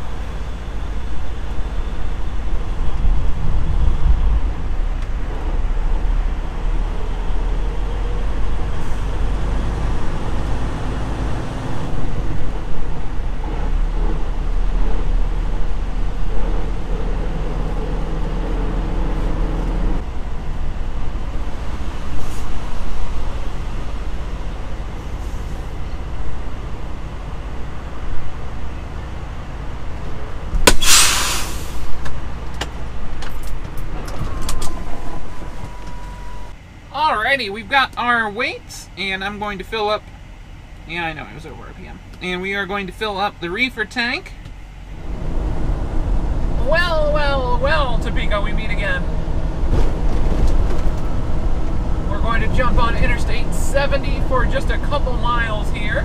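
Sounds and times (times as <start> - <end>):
truck engine and road drone: 0.0 - 56.0.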